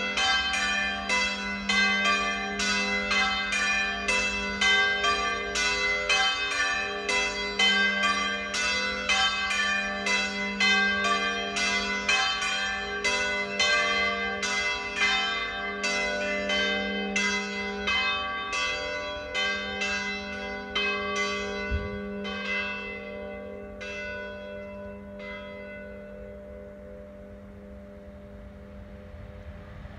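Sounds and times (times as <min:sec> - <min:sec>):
church bells pealing: 0:00.0 - 0:29.9.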